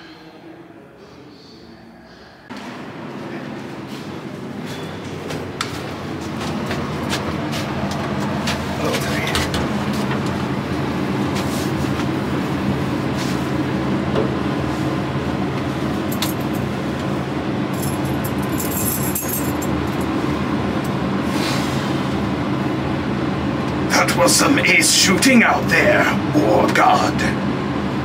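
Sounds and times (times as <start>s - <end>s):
elevator mechanical hum: 0.0s - 28.0s.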